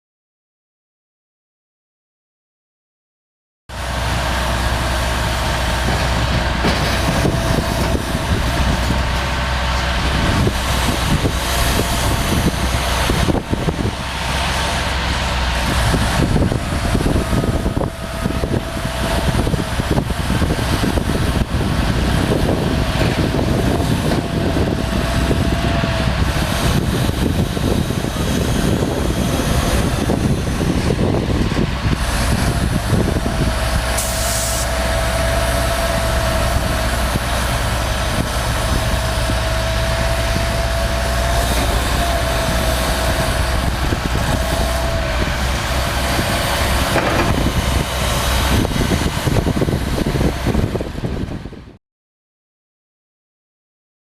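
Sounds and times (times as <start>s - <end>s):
rough mechanical noise: 3.7s - 51.5s
excavator diesel engine hum: 3.7s - 51.8s.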